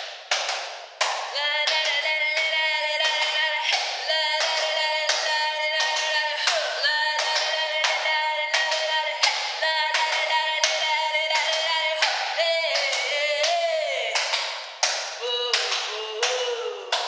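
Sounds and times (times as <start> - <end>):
hand claps: 0.0 - 17.0
person singing melody: 1.3 - 14.4, 15.2 - 17.0.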